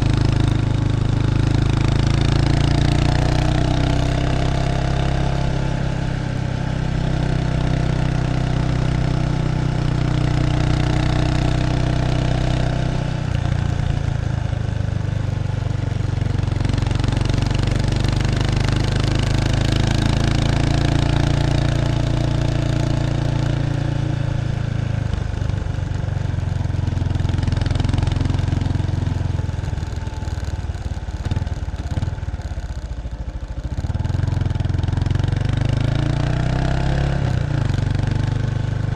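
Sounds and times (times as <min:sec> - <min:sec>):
motorcycle exhaust running: 0:00.0 - 0:38.9.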